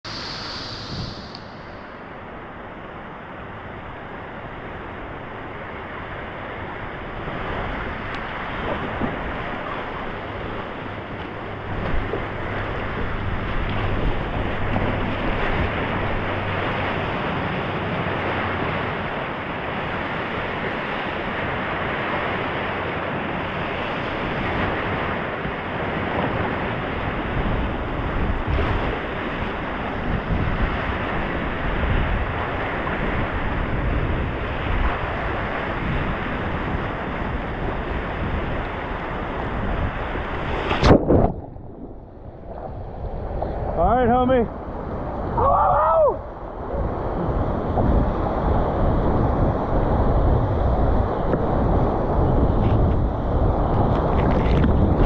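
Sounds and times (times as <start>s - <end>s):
rushing whitewater: 0.0s - 54.3s
wind buffeting microphone: 0.0s - 55.0s.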